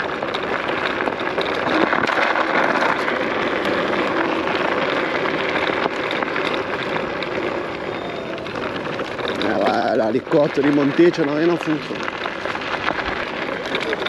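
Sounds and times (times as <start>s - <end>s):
electric scooter riding noise: 0.0s - 14.0s.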